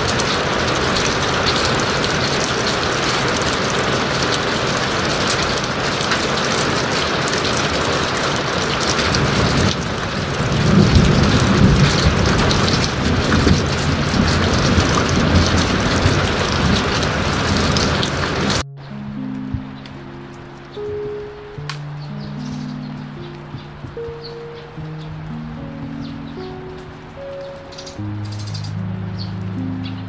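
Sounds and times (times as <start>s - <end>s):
heavy rain pouring: 0.0s - 30.0s
thunder rumbling: 0.0s - 30.0s.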